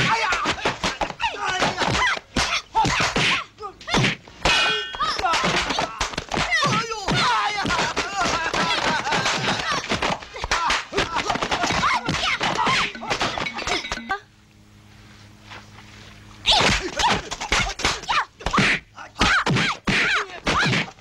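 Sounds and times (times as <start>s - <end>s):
punch and kick impacts: 0.0s - 13.8s, 16.6s - 21.0s
women shouting and screaming: 0.0s - 14.0s, 16.5s - 21.0s
low hum: 0.0s - 20.2s.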